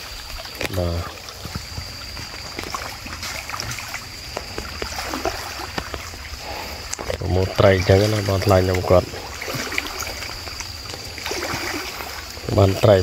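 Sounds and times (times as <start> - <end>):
rushing stream water: 0.0 - 13.0
water dripping: 0.0 - 13.0
water sloshing and splashing: 0.0 - 13.0.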